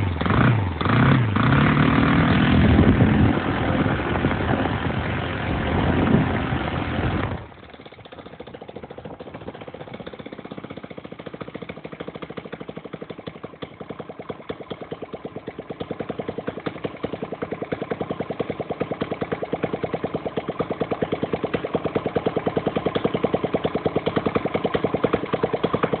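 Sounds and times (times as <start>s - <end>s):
propeller turning: 0.0s - 26.0s
model plane engine running: 2.1s - 26.0s.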